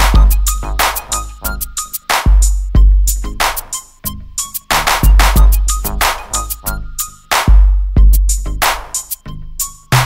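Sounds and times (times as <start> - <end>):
electronic beat music: 0.0 - 10.0.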